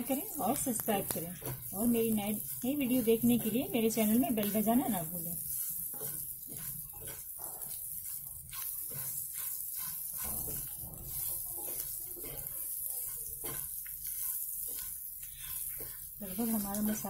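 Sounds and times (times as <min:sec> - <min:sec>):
onions and spices sizzling in oil: 0:00.0 - 0:17.0
wooden spatula scraping: 0:00.0 - 0:17.0.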